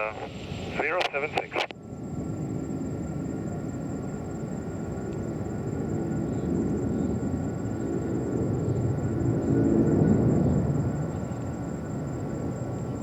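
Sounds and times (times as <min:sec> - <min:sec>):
distant jet engines rumbling: 0:00.0 - 0:13.0
faint steady whine: 0:00.0 - 0:13.0.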